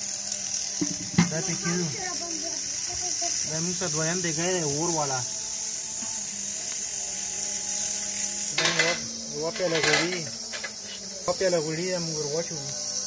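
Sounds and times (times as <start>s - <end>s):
high-pitched insect chirring: 0.0s - 13.0s.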